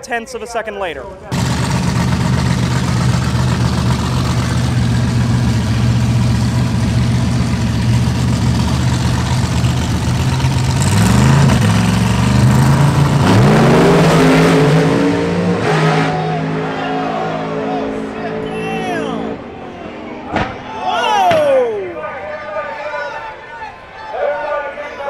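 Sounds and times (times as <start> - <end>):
drag racing car engines revving: 1.1 - 22.7.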